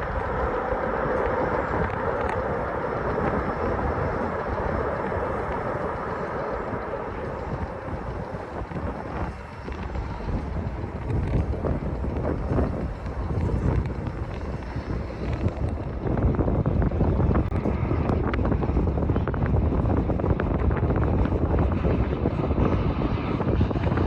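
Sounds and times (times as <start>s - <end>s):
jet engine rushing: 0.0s - 24.0s
wind rumble on microphone: 0.0s - 24.0s.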